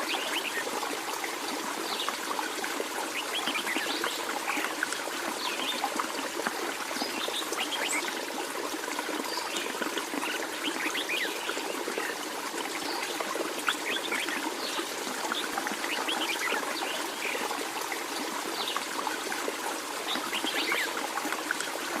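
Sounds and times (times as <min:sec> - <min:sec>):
water trickling and babbling: 0:00.0 - 0:22.0.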